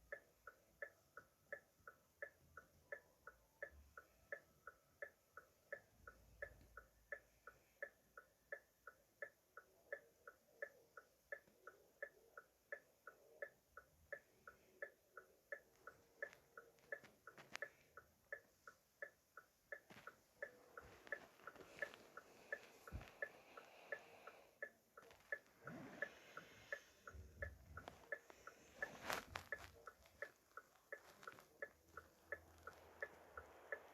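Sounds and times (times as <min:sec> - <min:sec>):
faint background noise: 0:00.0 - 0:33.9.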